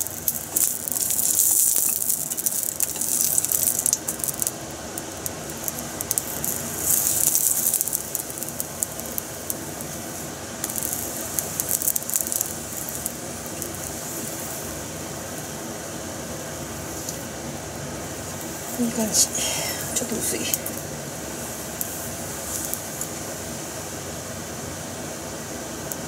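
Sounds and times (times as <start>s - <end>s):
oil sizzling in a frying pan: 0.0s - 26.0s.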